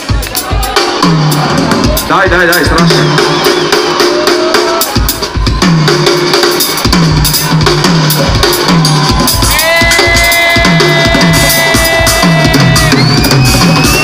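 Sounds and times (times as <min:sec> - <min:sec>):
hip-hop beat over loudspeakers: 0:00.0 - 0:14.0.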